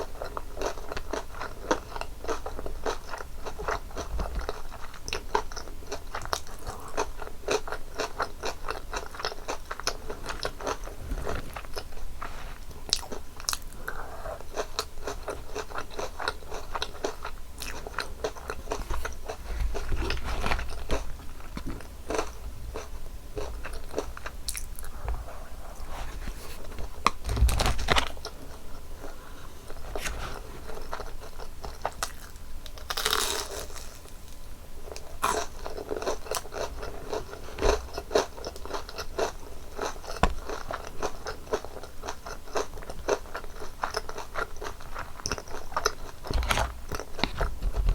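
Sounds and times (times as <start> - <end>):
crunching and chewing crispy food: 0.0 - 47.9.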